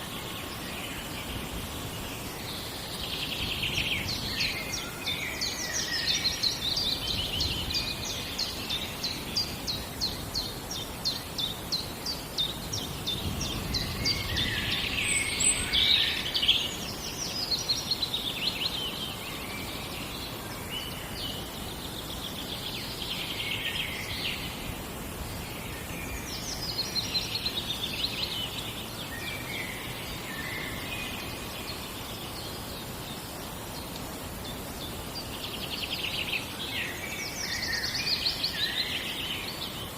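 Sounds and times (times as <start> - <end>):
songbirds singing: 0.0 - 39.9
steady low background noise: 0.0 - 39.9.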